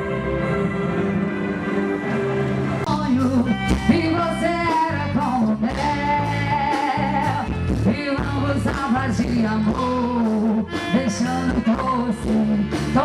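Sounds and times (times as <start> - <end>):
band accompaniment: 0.0 - 13.0.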